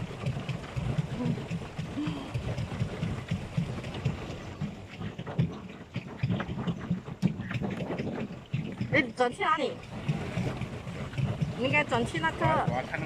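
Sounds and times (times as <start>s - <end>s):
boat on water: 0.0s - 13.0s
wind buffeting microphone: 2.2s - 13.0s.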